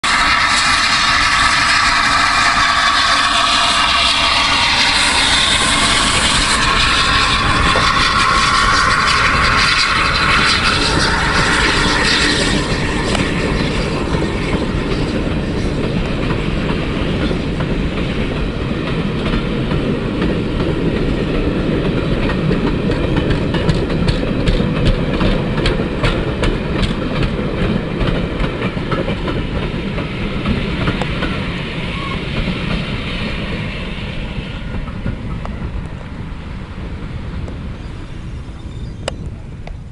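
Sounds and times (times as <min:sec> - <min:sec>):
train wheels clicking over rail joints: 0:00.1 - 0:39.9.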